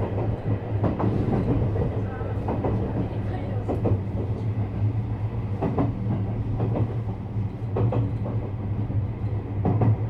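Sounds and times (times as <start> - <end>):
electric train hum: 0.0 - 10.0.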